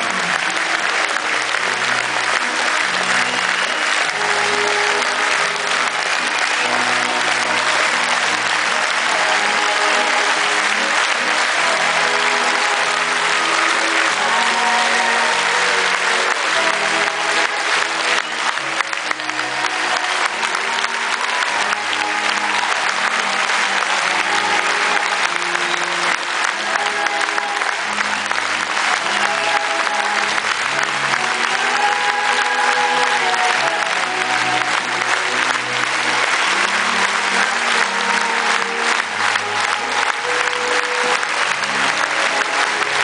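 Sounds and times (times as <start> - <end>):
audience applauding: 0.0 - 43.0.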